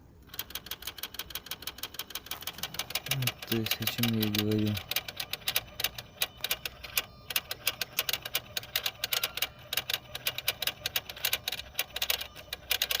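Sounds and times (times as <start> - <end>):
faint steady hum: 0.0 - 13.0
rapid irregular clicking: 0.2 - 13.0.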